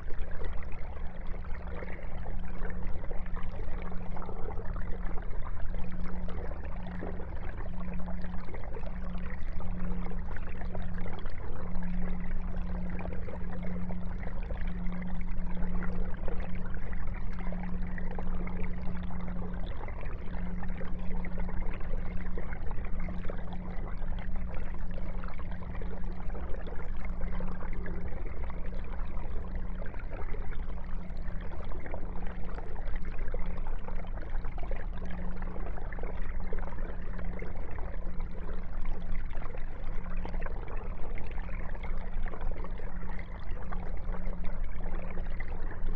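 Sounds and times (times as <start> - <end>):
aquarium bubbling water: 0.0 - 45.9
low hum: 0.0 - 45.9.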